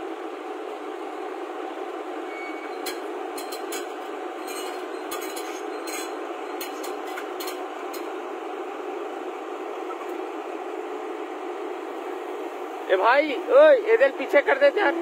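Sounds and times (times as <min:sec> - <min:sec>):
heavy diesel engines running: 0:00.0 - 0:15.0.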